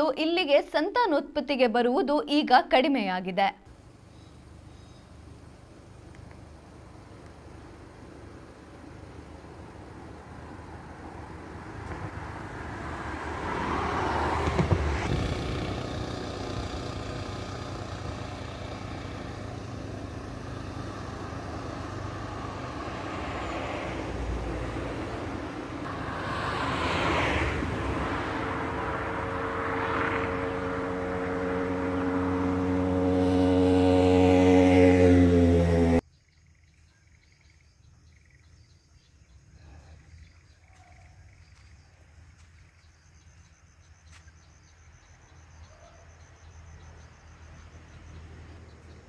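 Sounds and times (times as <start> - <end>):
vehicles passing on highway: 3.6 - 36.0, 39.0 - 49.0.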